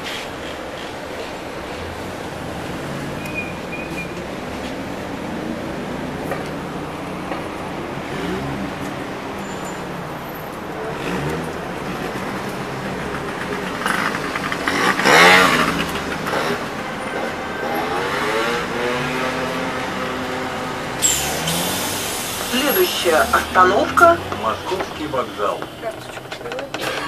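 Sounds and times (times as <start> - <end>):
bus diesel engine accelerating: 0.0 - 27.0.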